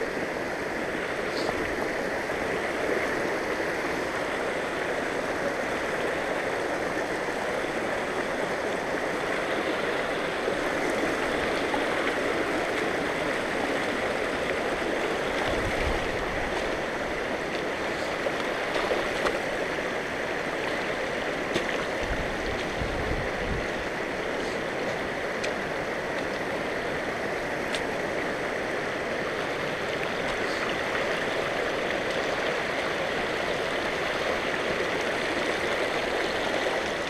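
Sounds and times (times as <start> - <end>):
creek running over rocks: 0.0 - 37.0.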